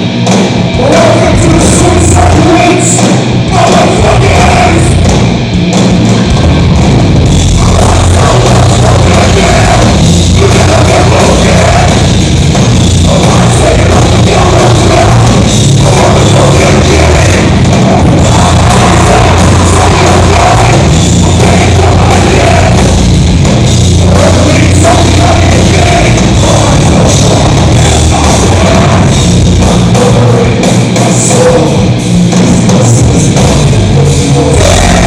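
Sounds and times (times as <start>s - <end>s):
heavy metal band playing live: 0.0s - 35.0s.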